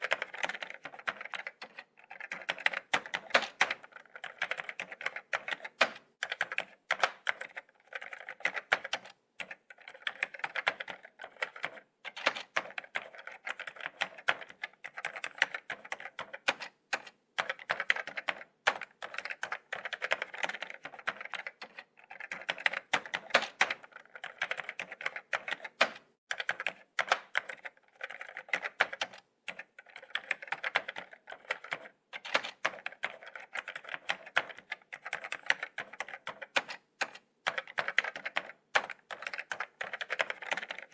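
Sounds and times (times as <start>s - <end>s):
laptop keyboard typing: 0.0s - 40.9s.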